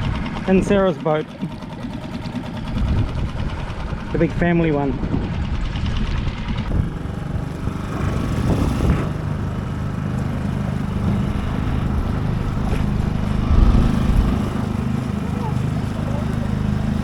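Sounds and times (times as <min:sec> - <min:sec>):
outboard motor running: 0:00.0 - 0:17.0
wind buffeting microphone: 0:02.5 - 0:17.0.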